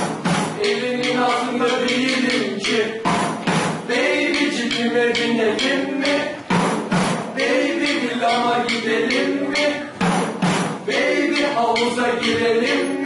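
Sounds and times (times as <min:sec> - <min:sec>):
drum strikes: 0:00.0 - 0:13.0
voices singing: 0:00.0 - 0:13.0.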